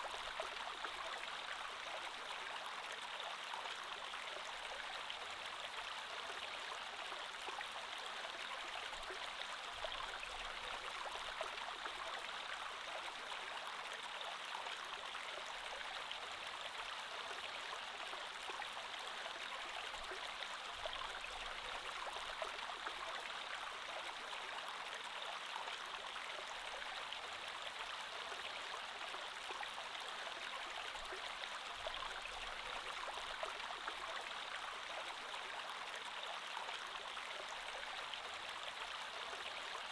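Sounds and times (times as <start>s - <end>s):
creek water flowing over stones: 0.0s - 39.9s.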